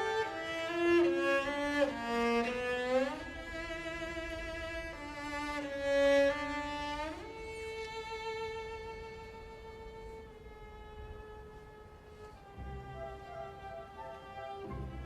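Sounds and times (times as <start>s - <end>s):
cello playing slow melody: 0.0s - 15.0s
string orchestra: 0.0s - 15.0s.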